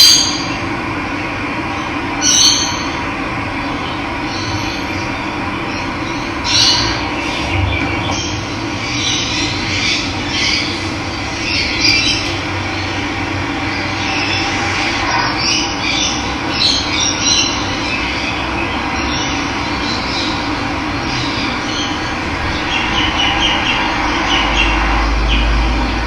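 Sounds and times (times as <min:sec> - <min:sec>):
birds calling harshly: 0:01.7 - 0:26.0.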